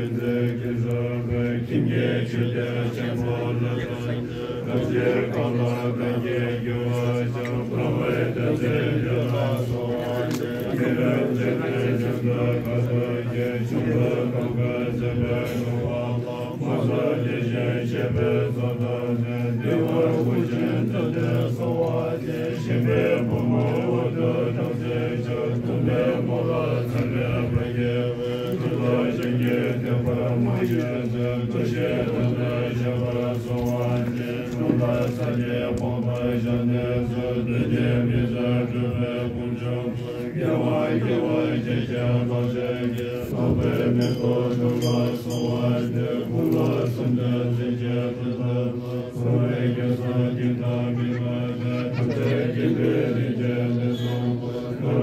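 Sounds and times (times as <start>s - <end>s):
monks chanting in low drone: 0.0s - 55.0s.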